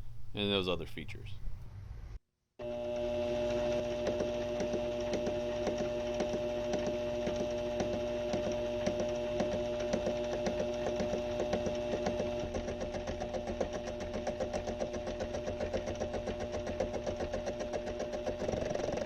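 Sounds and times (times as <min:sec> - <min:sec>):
machine tool motor whine: 0:02.6 - 0:19.0.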